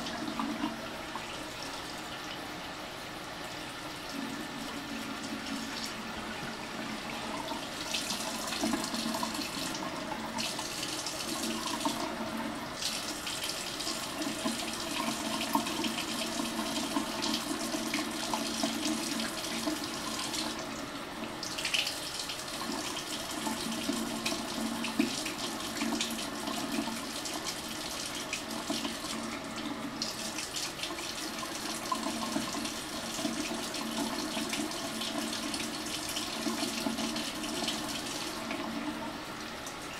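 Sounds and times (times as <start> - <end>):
faucet water splashing into sink: 4.1 - 39.9.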